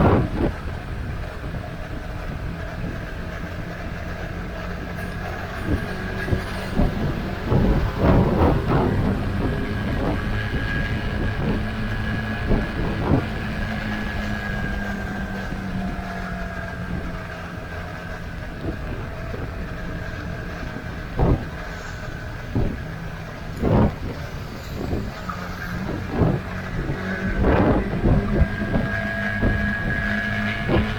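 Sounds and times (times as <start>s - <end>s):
motorcycle engine and road drone: 0.0s - 30.9s.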